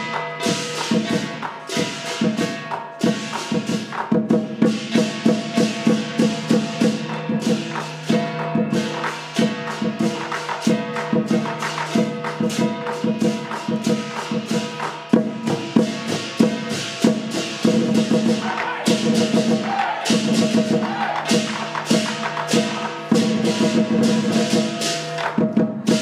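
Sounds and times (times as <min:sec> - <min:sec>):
cymbals crashing: 0:00.0 - 0:26.0
drum: 0:00.0 - 0:26.0
gong: 0:00.0 - 0:26.0.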